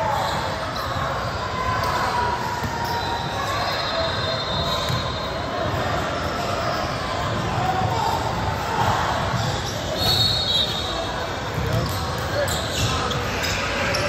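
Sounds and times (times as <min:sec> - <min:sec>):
echoing hall noise: 0:00.0 - 0:14.0
spectators chatter: 0:00.0 - 0:14.0.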